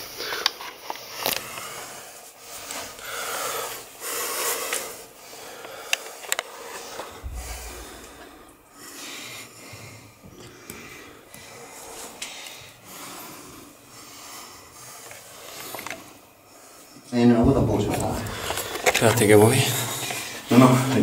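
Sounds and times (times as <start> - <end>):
person breathing: 0.0 - 17.1, 18.1 - 21.0.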